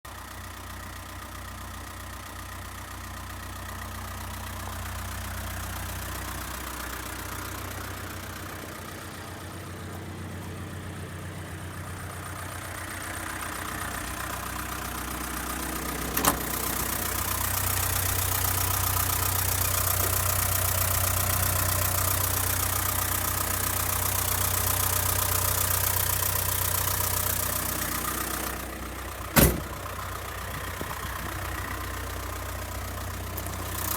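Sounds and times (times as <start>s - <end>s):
truck engine idling: 0.1s - 33.9s.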